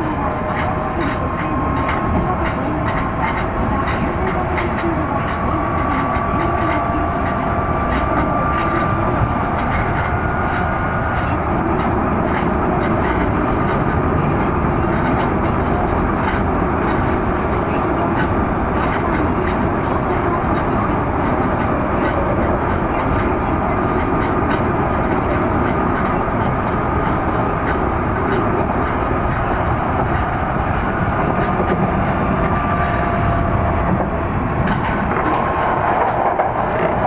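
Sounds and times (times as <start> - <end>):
rail-joint clicks: 0.0 - 37.0
wheels rumbling on rail: 0.0 - 37.0.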